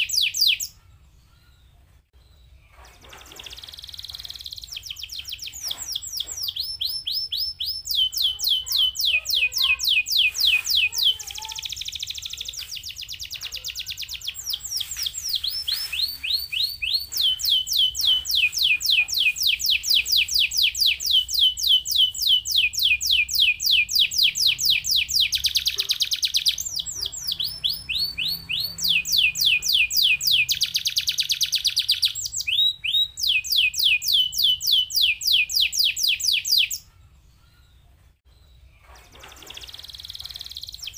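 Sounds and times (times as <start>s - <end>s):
canary singing fast trills: 0.0s - 40.9s.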